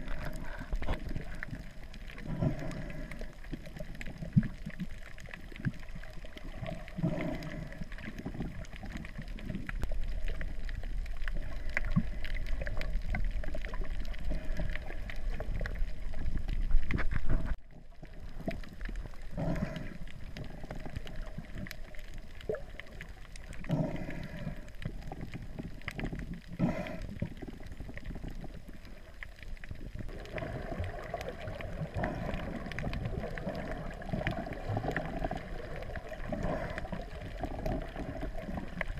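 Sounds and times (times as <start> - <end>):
muffled underwater noise: 0.0 - 38.9.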